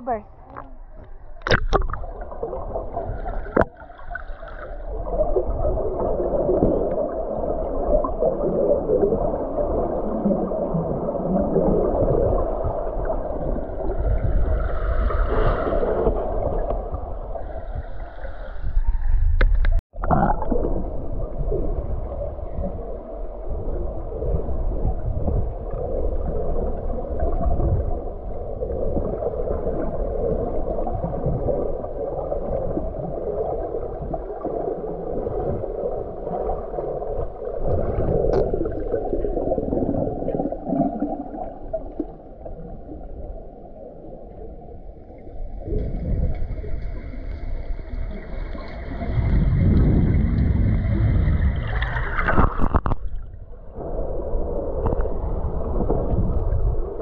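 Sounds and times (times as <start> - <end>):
underwater rushing and gurgling: 0.0 - 57.0.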